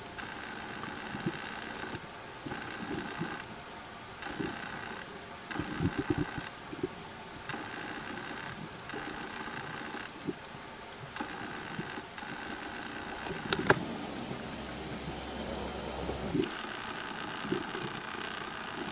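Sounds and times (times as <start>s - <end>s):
low crackles and clicks: 0.0s - 18.9s
underwater mechanical hum: 0.0s - 18.9s.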